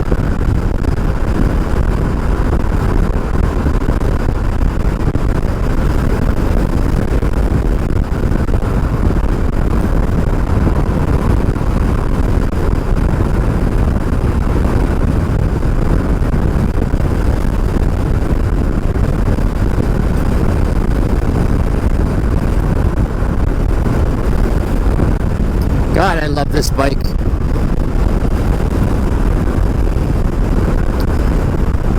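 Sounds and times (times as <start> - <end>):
wind rush on microphone: 0.0 - 31.9.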